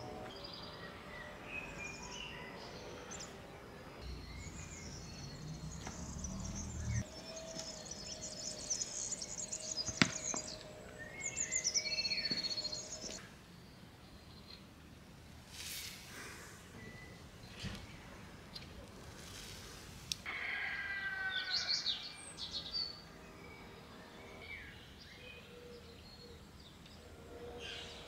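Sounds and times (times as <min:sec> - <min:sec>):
songbirds chirping and trilling: 0:00.0 - 0:15.4, 0:16.6 - 0:28.0.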